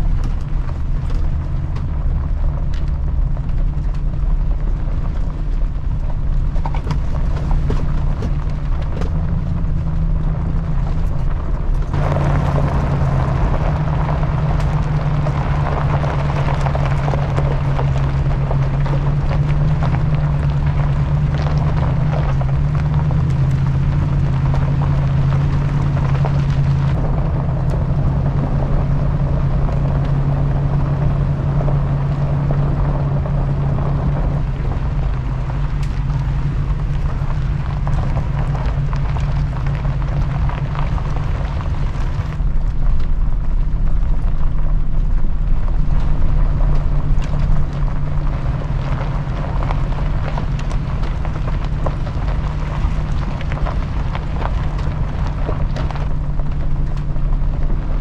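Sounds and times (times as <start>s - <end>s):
truck engine hum: 0.0s - 58.0s
tyres crunching on gravel: 0.0s - 58.0s.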